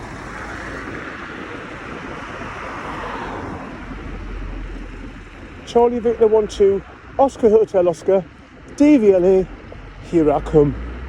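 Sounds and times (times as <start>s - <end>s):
road noise from bicycle: 0.0s - 11.0s
rushing wind: 0.0s - 11.0s.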